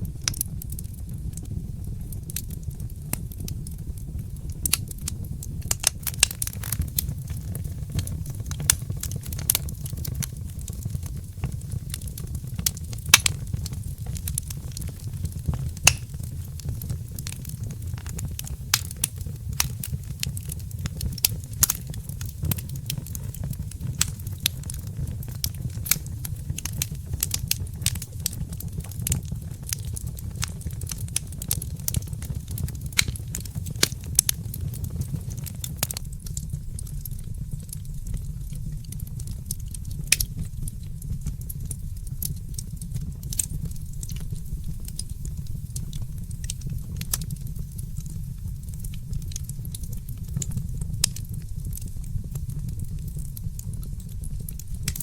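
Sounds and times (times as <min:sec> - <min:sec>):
low steady rumble: 0:00.0 - 0:55.0
wood fire crackling: 0:00.0 - 0:55.0.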